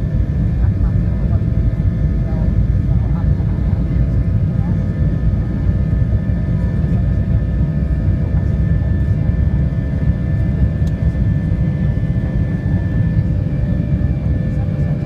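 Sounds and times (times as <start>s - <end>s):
jet engines roaring at high thrust: 0.0s - 15.0s.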